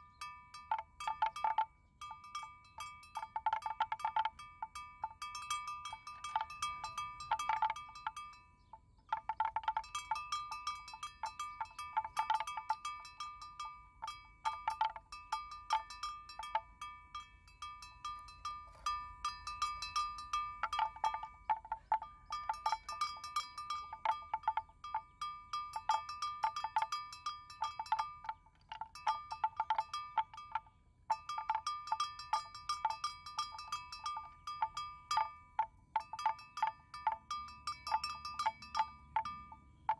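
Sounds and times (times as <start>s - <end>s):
animal neck bell clanking: 0.0s - 39.9s.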